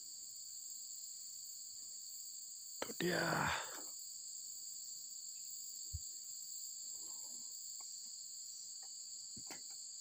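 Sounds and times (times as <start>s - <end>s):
insect chorus shrilling: 0.0s - 10.0s.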